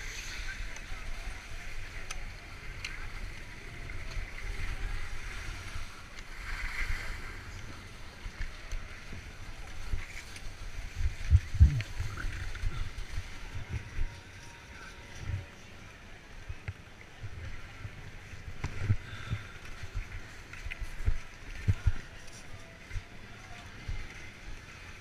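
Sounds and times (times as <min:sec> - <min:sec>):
faint crowd chatter: 0:00.0 - 0:25.0
skis sliding over slushy snow: 0:00.0 - 0:25.0
wind rumbling on microphone: 0:00.0 - 0:25.0.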